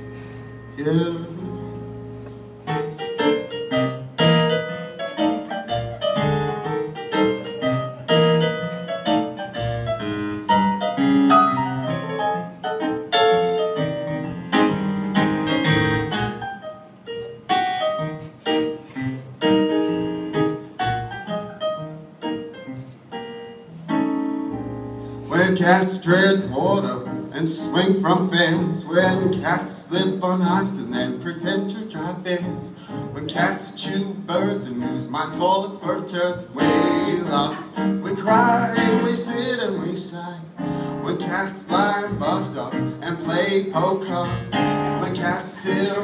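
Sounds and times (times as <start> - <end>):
keyboard playing piano chords: 0.0 - 46.0.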